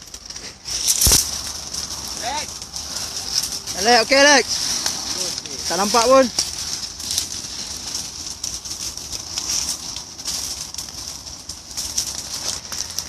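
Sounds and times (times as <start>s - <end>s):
burning brush crackling: 0.0s - 13.0s
fire hiss: 0.0s - 13.0s.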